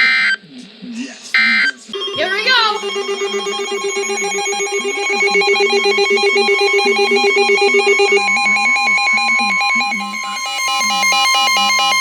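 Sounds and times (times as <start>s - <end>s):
lower wavering tone: 2.0s - 12.0s
pulsing trill alert tone: 2.0s - 12.0s
steady high alert beep: 2.0s - 12.0s.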